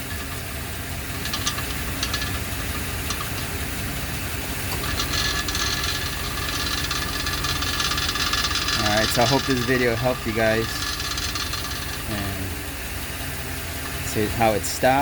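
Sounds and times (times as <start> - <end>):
metallic exhaust rattle: 0.0 - 15.0
truck engine idling: 0.0 - 15.0.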